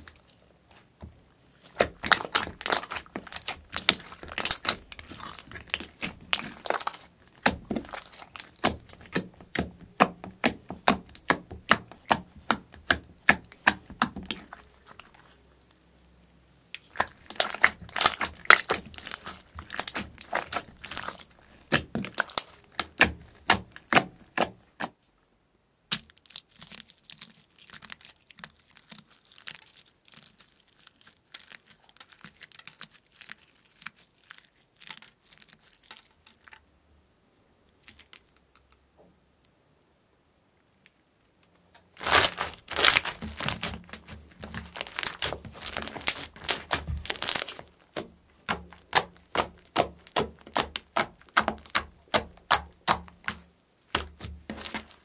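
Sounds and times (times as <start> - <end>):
slime crackling and popping: 0.0 - 15.4, 16.7 - 25.0, 25.9 - 36.6, 41.8 - 55.0.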